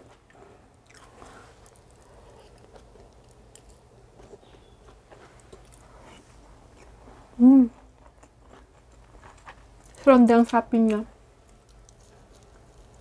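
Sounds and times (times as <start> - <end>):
chewing and mouth noises: 0.1 - 10.1, 10.8 - 13.0.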